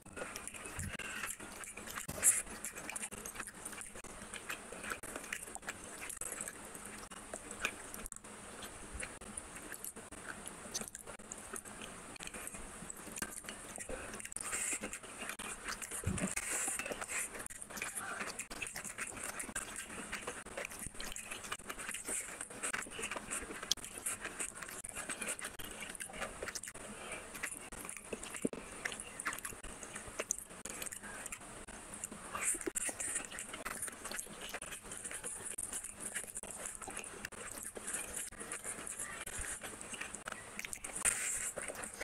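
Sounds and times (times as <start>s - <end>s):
close chewing with wet mouth clicks: 0.0s - 42.0s.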